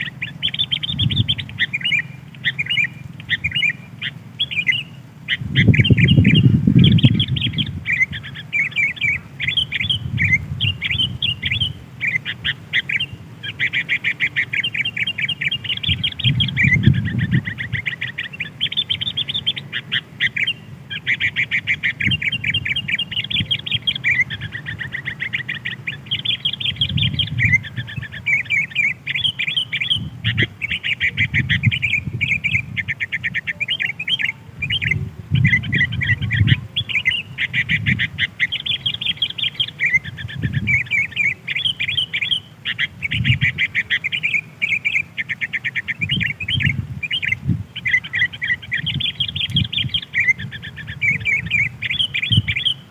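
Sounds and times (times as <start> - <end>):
bulbuls chattering: 0.0 - 52.9.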